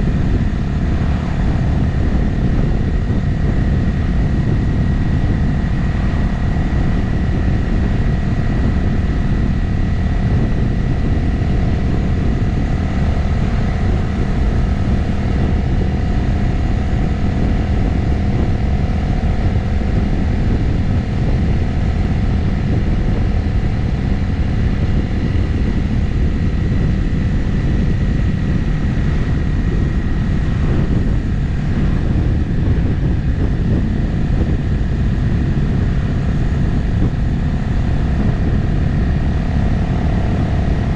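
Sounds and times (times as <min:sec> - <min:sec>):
motorcycle cruising: 0:00.0 - 0:40.9.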